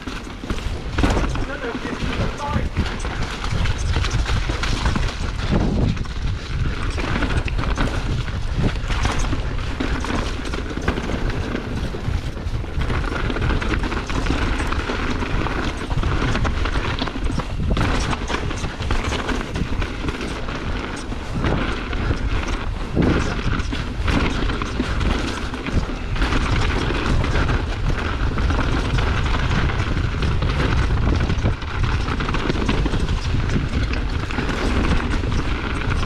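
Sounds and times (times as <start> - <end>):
bike rattling: 0.0 - 36.0
wind rumbling on microphone: 0.0 - 36.0.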